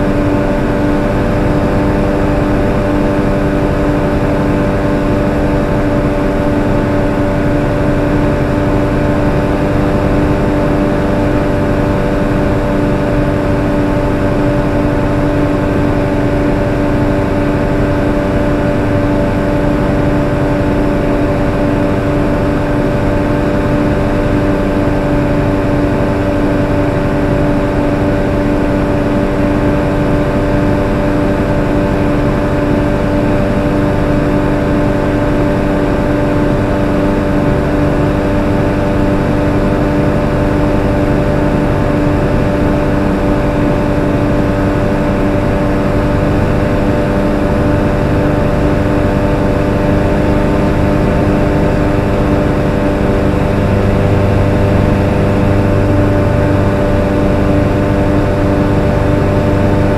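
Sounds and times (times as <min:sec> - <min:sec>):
aircraft engine drone: 0:00.0 - 0:59.9
low hum: 0:00.0 - 0:59.9.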